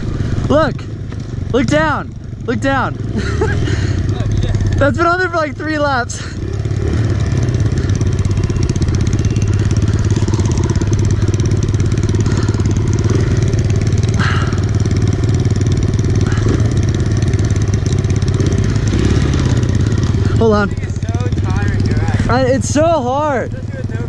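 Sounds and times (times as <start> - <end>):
pit bike engines droning: 0.0 - 24.0.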